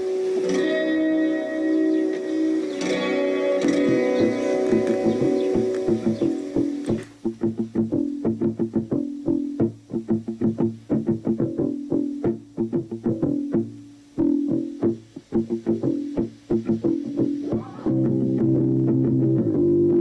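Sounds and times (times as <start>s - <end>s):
plucked guitar notes: 0.0s - 20.0s
bass line: 3.8s - 20.0s.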